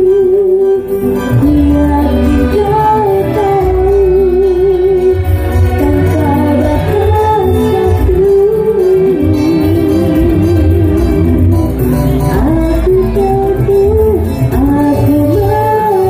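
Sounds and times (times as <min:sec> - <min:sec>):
electric guitar: 0:00.0 - 0:16.0
keyboard: 0:00.0 - 0:16.0
low bass notes: 0:00.0 - 0:16.0
woman singing: 0:00.0 - 0:16.0.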